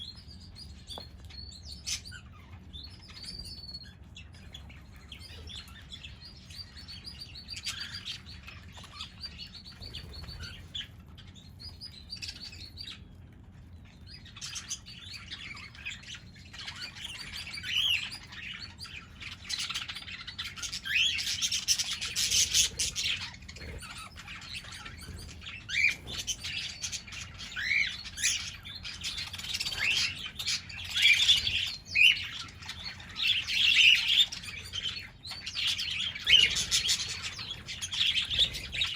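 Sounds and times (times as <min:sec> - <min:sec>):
parrots chirping and calling: 0:00.0 - 0:38.9.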